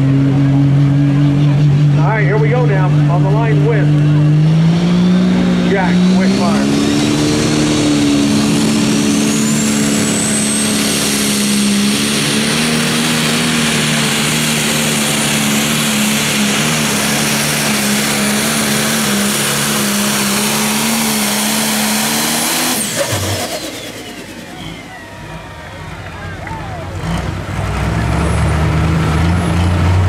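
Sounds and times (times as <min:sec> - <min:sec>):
diesel engine at full throttle: 0:00.0 - 0:30.0
high turbo whine: 0:00.0 - 0:30.0.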